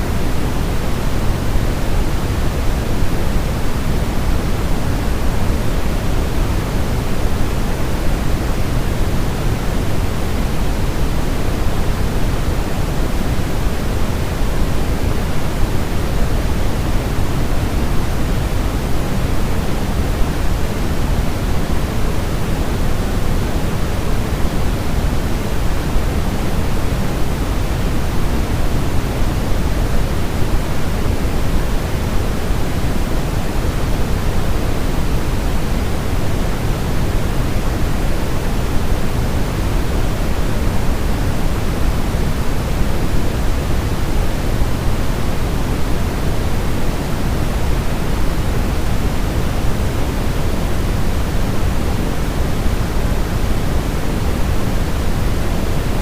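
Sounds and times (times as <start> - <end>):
deep steady white noise: 0.0 - 56.0.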